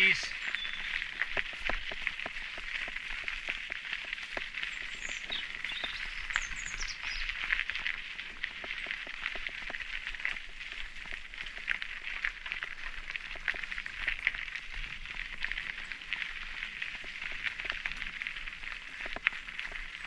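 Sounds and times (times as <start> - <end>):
bike tyres crunching gravel: 0.0 - 20.0
stones clicking under tyres: 0.0 - 20.0.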